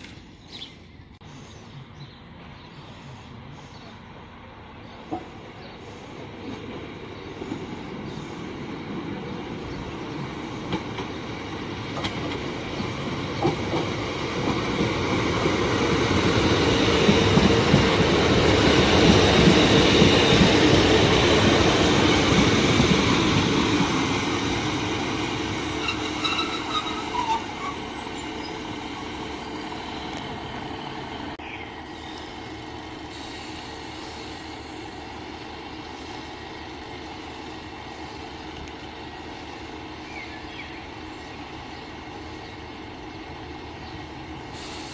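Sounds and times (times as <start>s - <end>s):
diesel train engine rumble: 1.0s - 44.9s
train wheels on rails: 1.3s - 44.9s.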